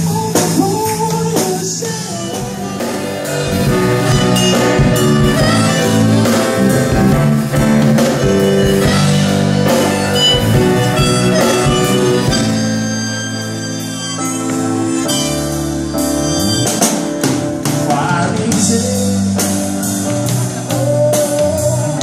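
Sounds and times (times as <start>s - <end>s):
drum kit beat: 0.0s - 22.0s
guitar: 0.0s - 22.0s.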